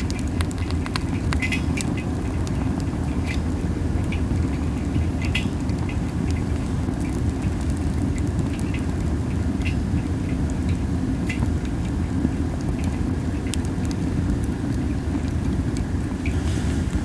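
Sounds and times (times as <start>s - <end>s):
wind on microphone: 0.0s - 17.0s
wood fire crackling and popping: 0.0s - 17.0s.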